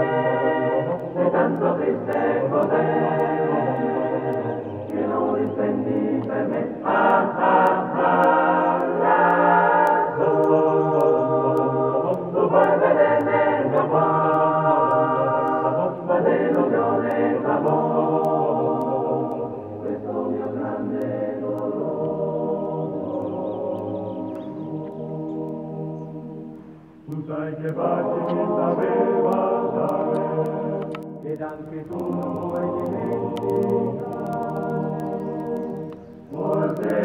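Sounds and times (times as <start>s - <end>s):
choir singing held chords: 0.0s - 37.0s.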